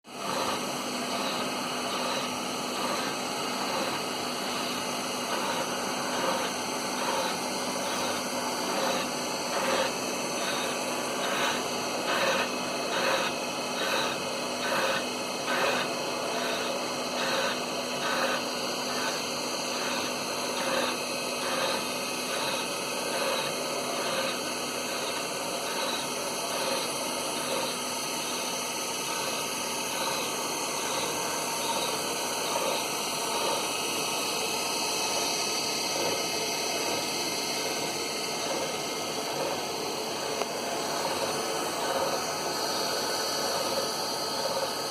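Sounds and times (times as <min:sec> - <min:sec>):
line-boring machine humming: 0:00.0 - 0:44.9.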